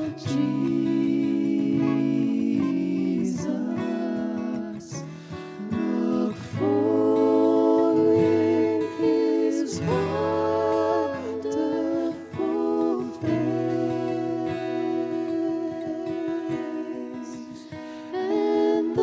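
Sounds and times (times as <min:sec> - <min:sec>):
acoustic guitar picking: 0:00.0 - 0:19.0
keyboard: 0:00.0 - 0:19.0
voices singing in harmony: 0:00.0 - 0:19.0.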